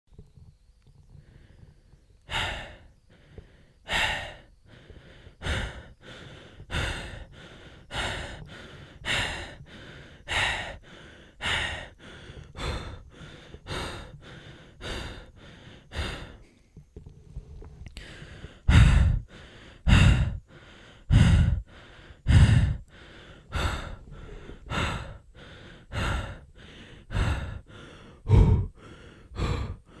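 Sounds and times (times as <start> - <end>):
man breathing heavily: 1.2 - 16.8, 17.4 - 30.0.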